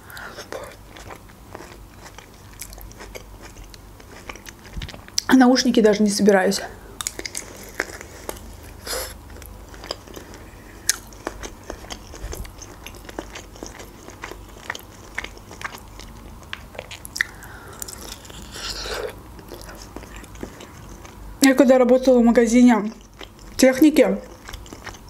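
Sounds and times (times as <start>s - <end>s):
person chewing: 0.0s - 5.3s, 6.8s - 21.4s, 22.8s - 23.6s, 24.2s - 25.0s.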